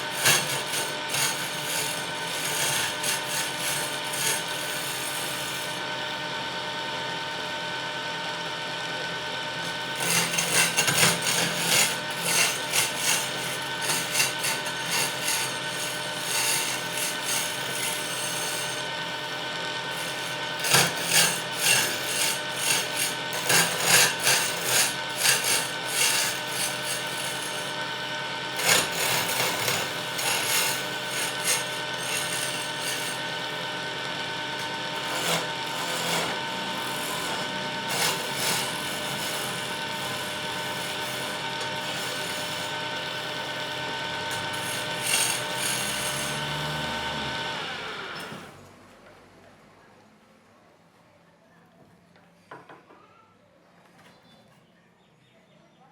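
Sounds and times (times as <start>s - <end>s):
tool scraping spinning wood: 0.0s - 48.6s
wood lathe motor whine: 0.0s - 48.6s.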